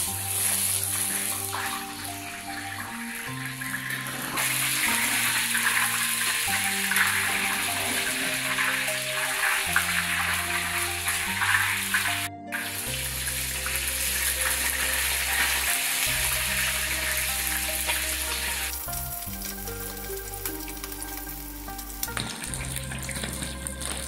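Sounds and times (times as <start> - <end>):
background music: 0.0 - 24.0
fish sizzling in hot oil: 0.0 - 24.0.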